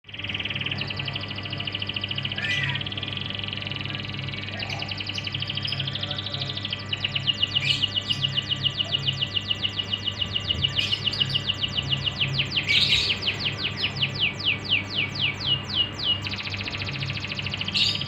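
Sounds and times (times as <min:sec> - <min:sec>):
canary singing trills: 0:00.0 - 0:18.0
faint low pulsing hum: 0:00.0 - 0:18.0.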